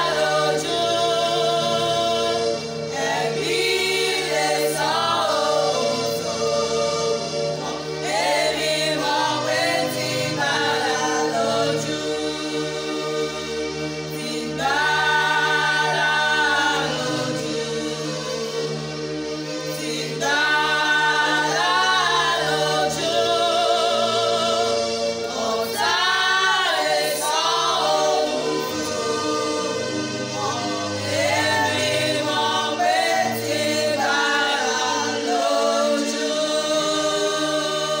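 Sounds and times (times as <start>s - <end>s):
women singing a hymn: 0.0s - 38.0s.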